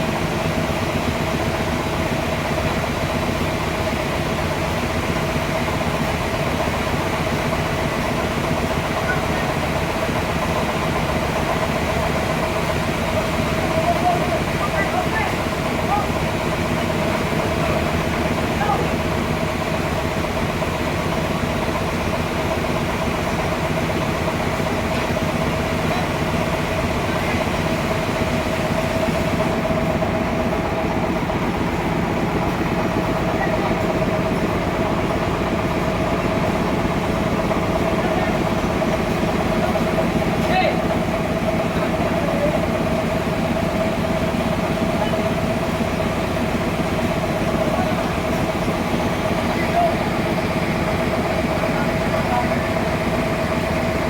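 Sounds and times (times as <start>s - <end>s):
constant machine whine: 0.0s - 54.0s
sawmill machinery rumbling: 0.0s - 54.0s.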